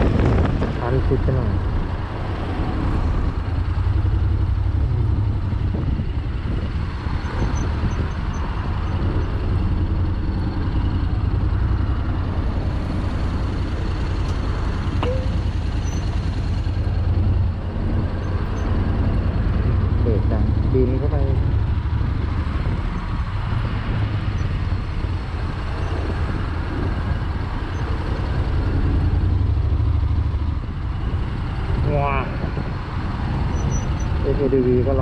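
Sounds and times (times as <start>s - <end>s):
idling traffic hum: 0.0s - 35.0s
motorcycle engine running at low speed: 0.0s - 35.0s.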